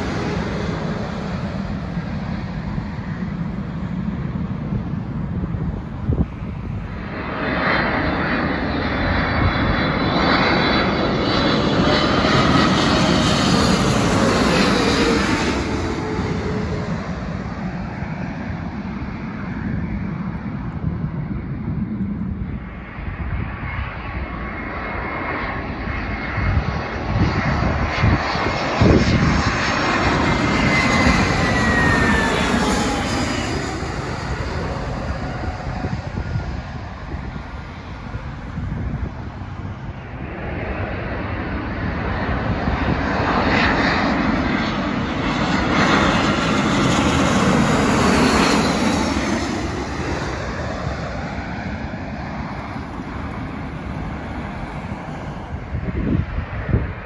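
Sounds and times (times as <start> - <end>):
jet airliners passing overhead: 0.0 - 57.0.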